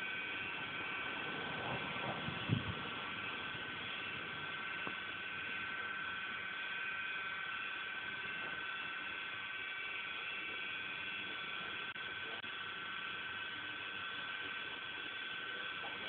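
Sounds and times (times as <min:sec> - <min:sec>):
cement mixer running: 0:00.0 - 0:16.0.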